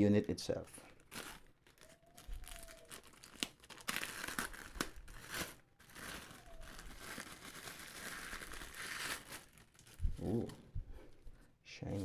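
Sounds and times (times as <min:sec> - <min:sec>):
plastic wrapping crinkling: 0:00.0 - 0:10.5.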